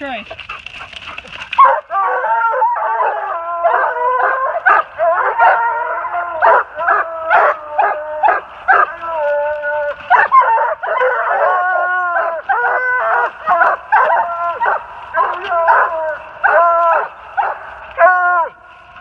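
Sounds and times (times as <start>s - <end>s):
hounds barking and bawling: 0.0s - 18.6s.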